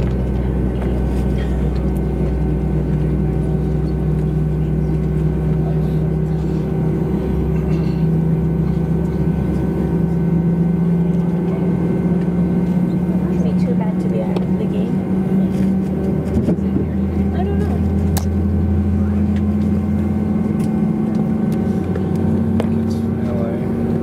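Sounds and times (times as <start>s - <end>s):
jet engine cabin rumble and hum: 0.0s - 24.0s.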